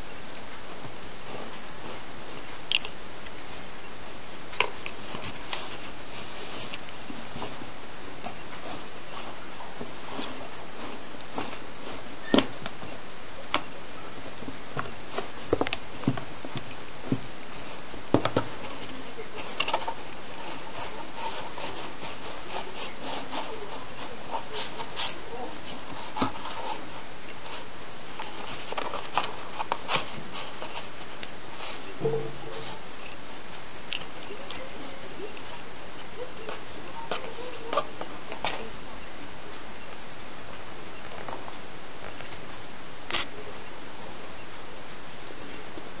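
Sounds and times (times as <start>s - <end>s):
cloth and straw rustling: 0.0s - 42.6s
steady hiss: 0.0s - 46.0s.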